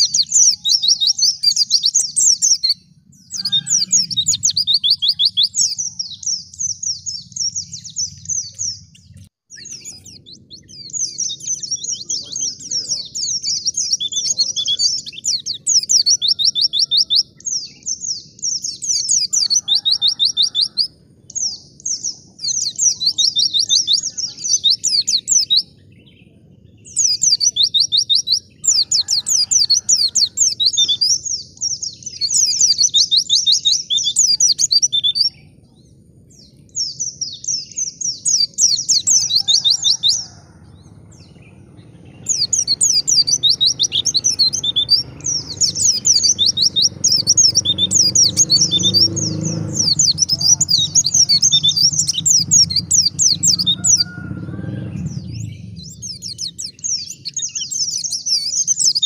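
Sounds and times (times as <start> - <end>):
bird singing chattering phrases: 0.0 - 54.1, 54.7 - 59.0.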